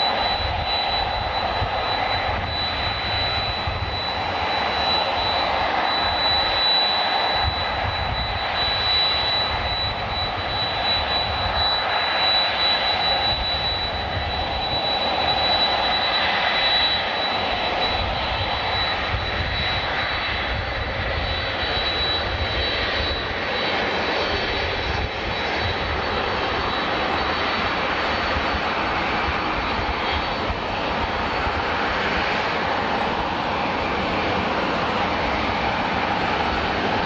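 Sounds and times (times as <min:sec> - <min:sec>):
high steady whine: 0:00.0 - 0:37.0
jet engines roaring: 0:00.0 - 0:37.0.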